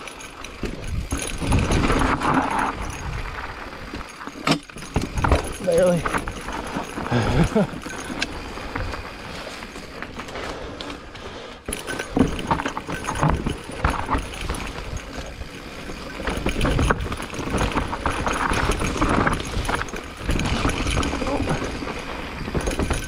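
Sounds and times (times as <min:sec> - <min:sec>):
bike knocking and rattling: 0:00.0 - 0:23.0
tyres rolling on dirt and rock: 0:00.0 - 0:23.0.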